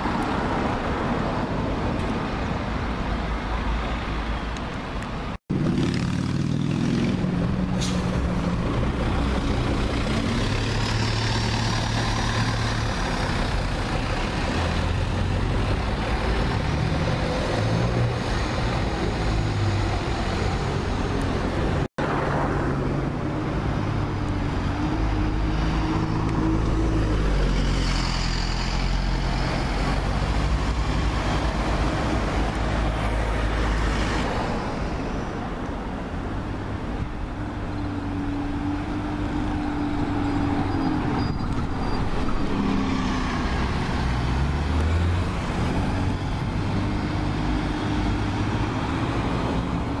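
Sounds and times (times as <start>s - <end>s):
street traffic: 0.0s - 50.0s
diesel bus engine: 6.8s - 50.0s.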